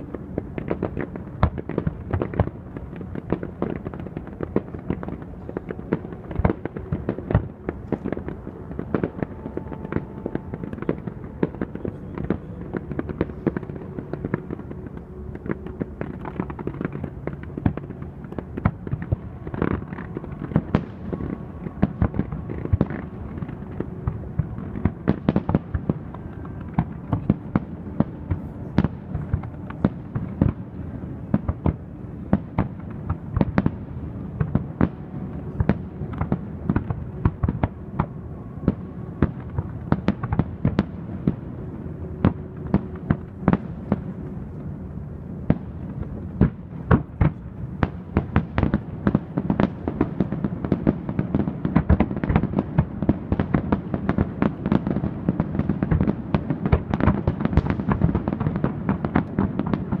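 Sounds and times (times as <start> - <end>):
continuous low rumble: 0.0 - 60.0.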